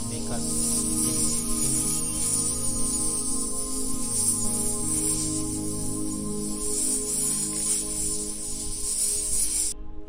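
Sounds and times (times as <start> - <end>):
background music sustained tones: 0.0 - 10.0.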